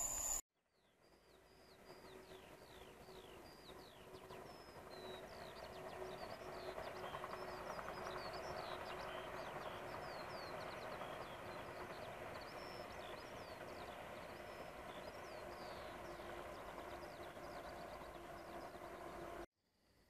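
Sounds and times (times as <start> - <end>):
small birds chirping: 1.3 - 19.4
distant train rumble: 1.5 - 19.4.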